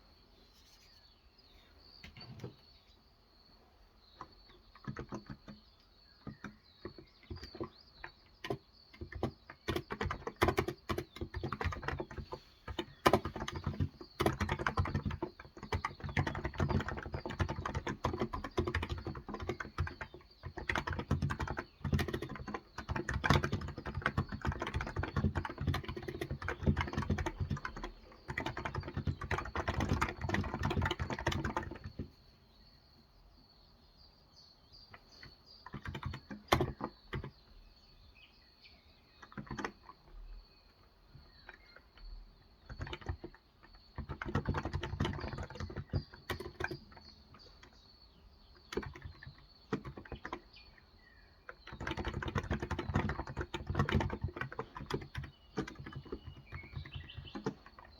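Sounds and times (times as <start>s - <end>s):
faint bird chirps: 0.0s - 57.9s
typing on keyboard: 4.2s - 32.2s, 34.9s - 37.5s, 39.2s - 47.9s, 48.6s - 57.9s.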